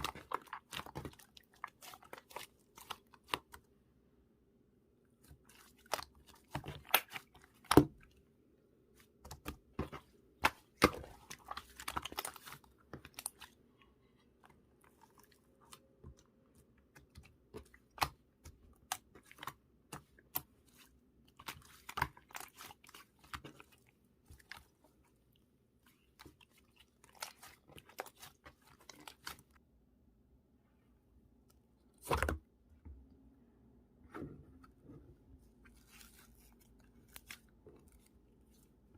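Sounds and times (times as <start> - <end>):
slime squishing: 0.0 - 3.8, 5.1 - 8.2, 8.8 - 29.6, 34.2 - 38.9.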